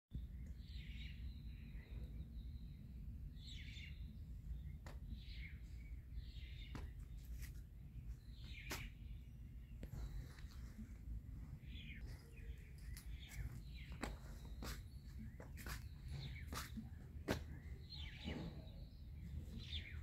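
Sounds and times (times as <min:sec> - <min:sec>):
birds chirping: 0:00.1 - 0:20.0.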